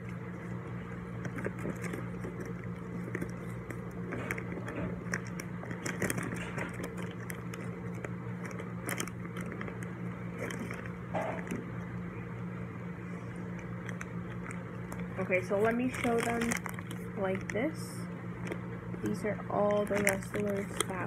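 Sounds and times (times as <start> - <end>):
plastic bag crinkling: 0.0 - 11.9, 13.1 - 21.0.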